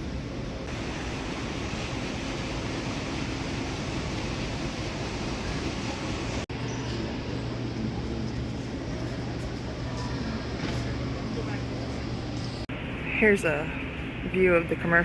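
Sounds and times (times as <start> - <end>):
low rumbling hall noise: 0.0 - 15.0.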